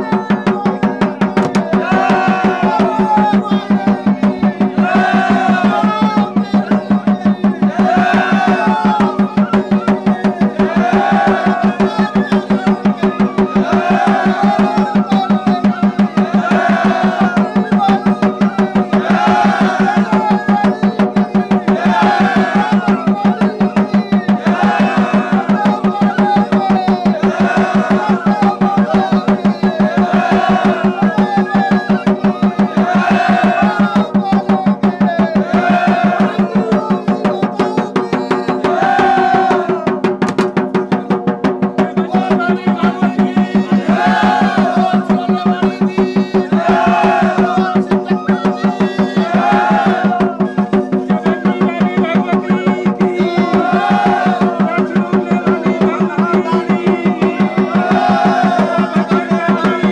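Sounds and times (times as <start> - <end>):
fast drumbeat: 0.0 - 59.9.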